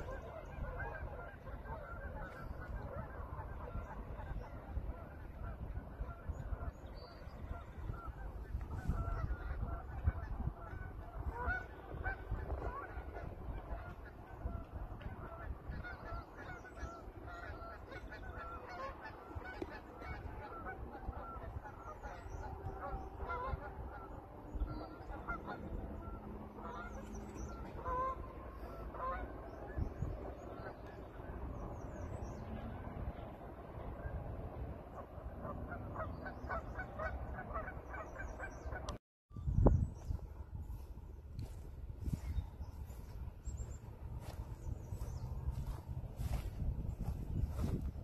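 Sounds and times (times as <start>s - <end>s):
geese honking: 0.0s - 39.0s, 41.4s - 47.9s
wind on microphone: 0.0s - 48.0s.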